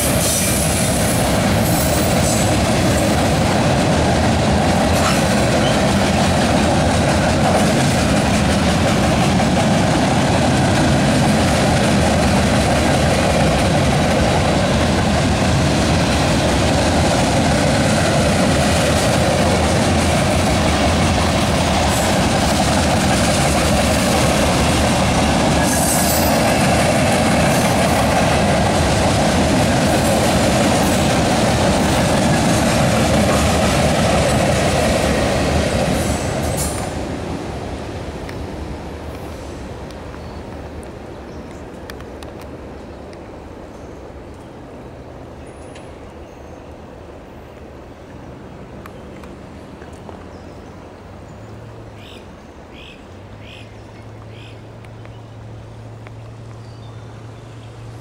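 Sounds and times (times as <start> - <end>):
train wheels rumbling over bridge: 0.0 - 58.0.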